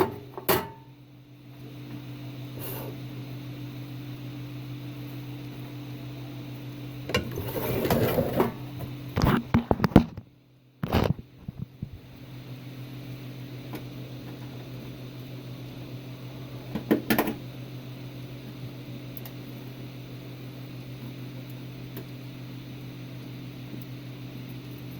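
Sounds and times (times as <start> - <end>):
range hood fan humming: 0.0 - 24.9.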